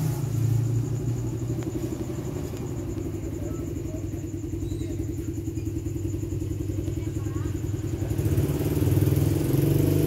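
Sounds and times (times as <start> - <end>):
engine running with rapid pulse: 0.0 - 10.0.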